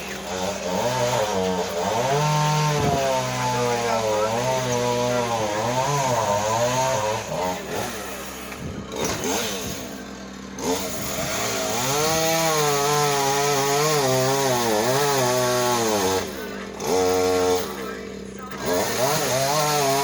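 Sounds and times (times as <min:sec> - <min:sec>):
chainsaw running at high revs: 0:00.0 - 0:20.0.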